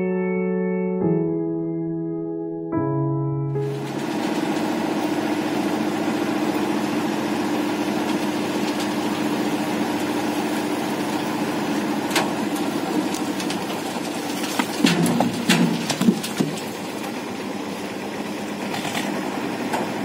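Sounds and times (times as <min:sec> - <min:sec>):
tractor diesel engine running: 0:03.6 - 0:20.0.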